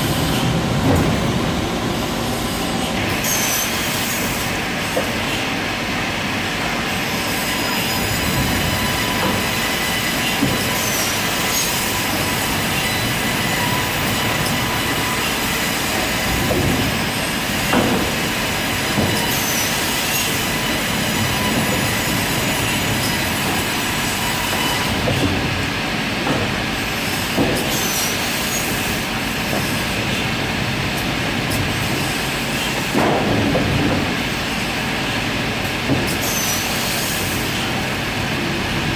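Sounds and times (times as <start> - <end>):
saw running: 0.0 - 33.0.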